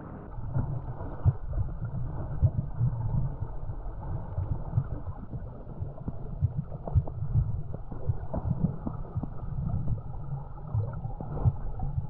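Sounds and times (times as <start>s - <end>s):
muffled water sloshing: 0.0s - 12.0s.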